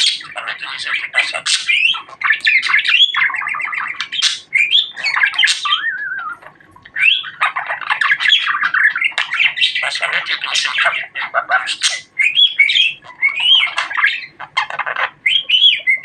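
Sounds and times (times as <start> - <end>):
budgerigar chattering and warbling: 0.0 - 16.0.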